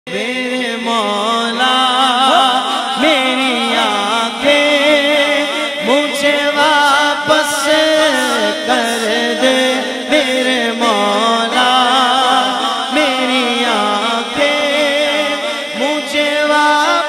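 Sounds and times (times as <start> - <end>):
man singing over a pa: 0.1 - 17.0.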